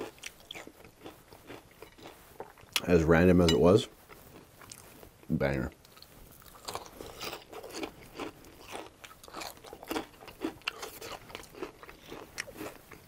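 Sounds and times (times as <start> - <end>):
chewing crunchy fried food: 0.0 - 2.9, 3.9 - 13.0.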